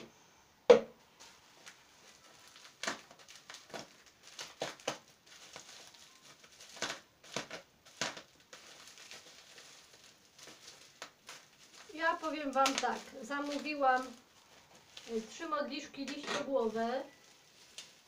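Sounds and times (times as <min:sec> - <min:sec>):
plastic wrapping crinkling: 0:01.1 - 0:18.0.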